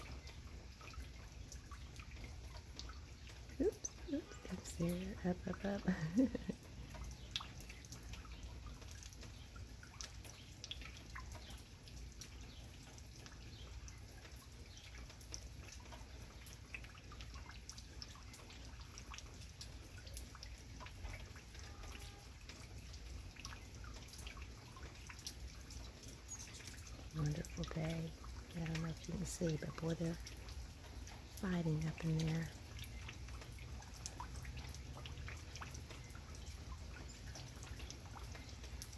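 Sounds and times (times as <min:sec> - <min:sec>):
rain dripping and pattering: 0:00.0 - 0:38.9.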